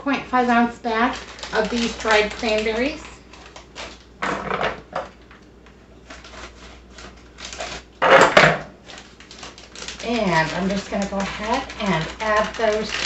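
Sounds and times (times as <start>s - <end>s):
plastic bag crinkling: 0.5s - 13.0s.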